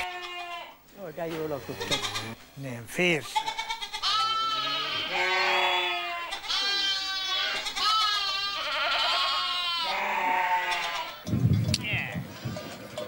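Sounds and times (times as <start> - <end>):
lambs and goats bleating: 0.0 - 2.4, 3.1 - 13.0.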